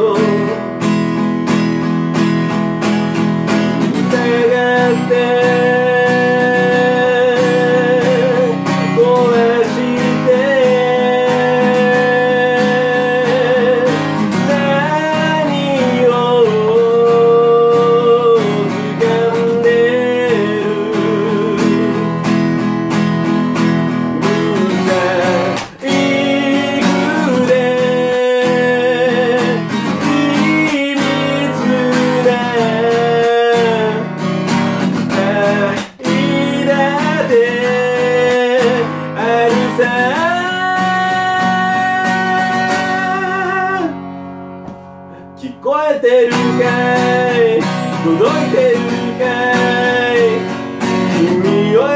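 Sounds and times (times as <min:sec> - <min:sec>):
strummed acoustic guitar: 0:00.0 - 0:51.9.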